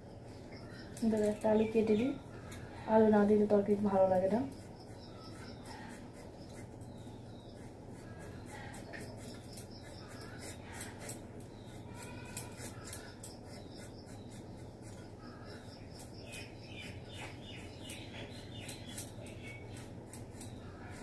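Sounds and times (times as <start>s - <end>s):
birds chirping: 0.0s - 21.0s
knife scraping potato: 1.0s - 21.0s.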